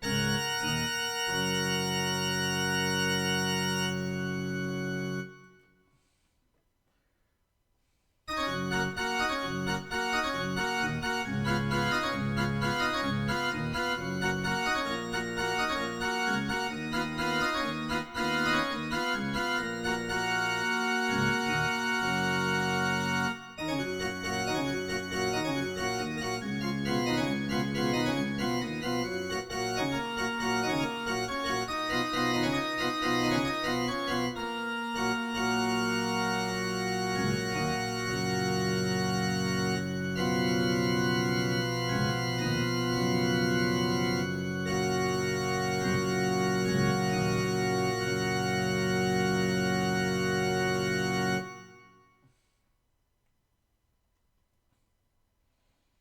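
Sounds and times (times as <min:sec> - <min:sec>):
electronic keyboard organ voice: 0:00.0 - 0:05.6, 0:08.3 - 0:52.0.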